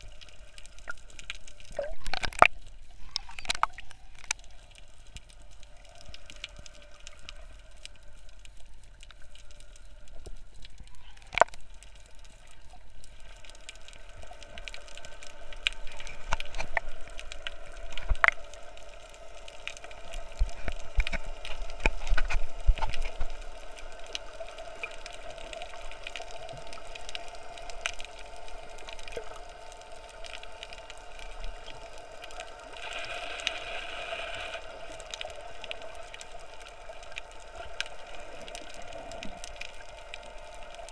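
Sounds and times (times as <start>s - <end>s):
faint steady hum: 0.0s - 40.9s
muffled underwater noise: 0.0s - 40.9s
sharp clicks and crackles: 0.0s - 40.9s.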